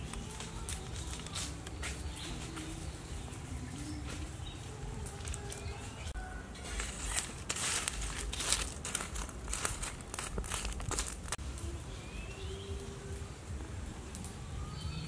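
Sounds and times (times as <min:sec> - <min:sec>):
coals clinking: 0:00.0 - 0:14.4
charcoal embers crackling: 0:00.0 - 0:15.0.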